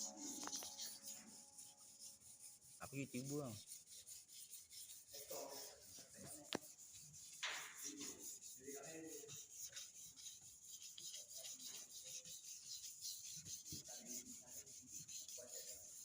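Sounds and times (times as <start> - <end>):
sandpaper rasping on filler: 0.0 - 16.0.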